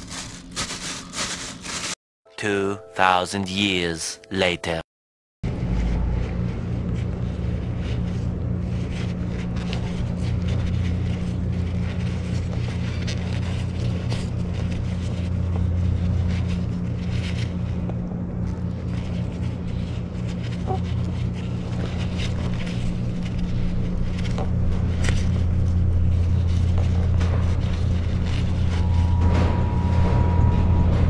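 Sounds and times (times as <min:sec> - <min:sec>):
deep ground rumble: 0:05.4 - 0:31.0.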